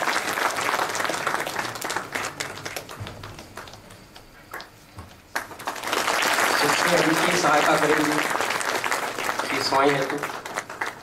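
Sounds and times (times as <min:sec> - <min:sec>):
audience applause: 0:00.0 - 0:04.7, 0:05.3 - 0:11.0.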